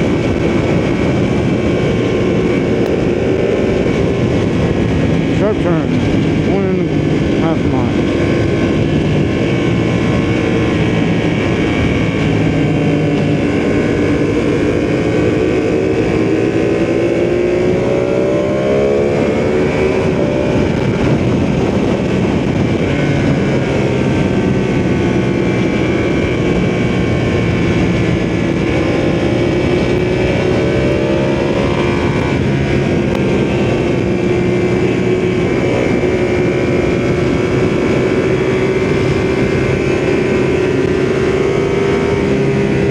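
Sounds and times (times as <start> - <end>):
motorcycle engine revving: 0.0 - 42.9
wind rush: 0.0 - 42.9.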